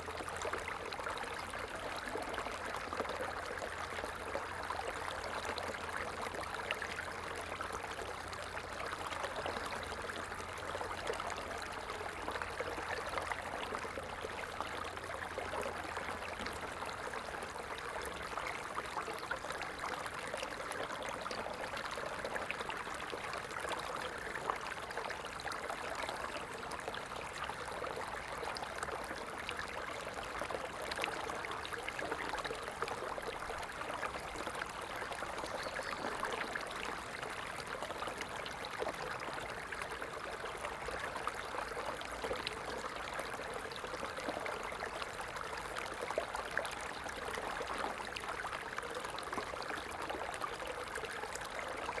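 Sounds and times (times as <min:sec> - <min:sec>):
stream water babbling: 0:00.0 - 0:52.0.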